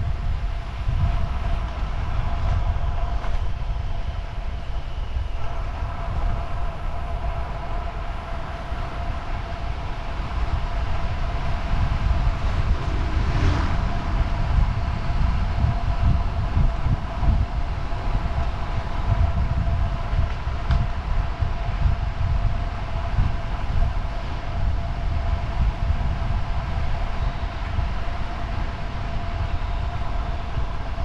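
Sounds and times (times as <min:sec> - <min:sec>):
bike road noise: 0:00.0 - 0:31.0
steady hum: 0:00.0 - 0:31.0
wind buffeting microphone: 0:00.0 - 0:31.0.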